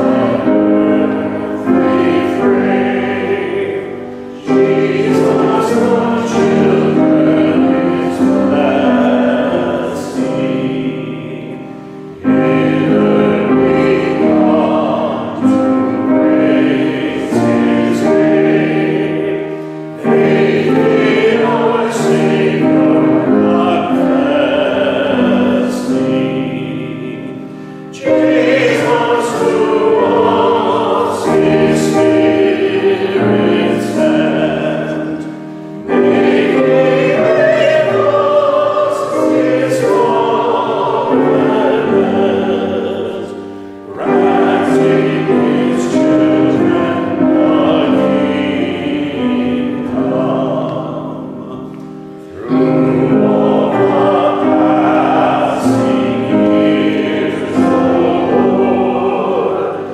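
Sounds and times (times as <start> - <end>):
voices singing a hymn: 0.0 - 59.9.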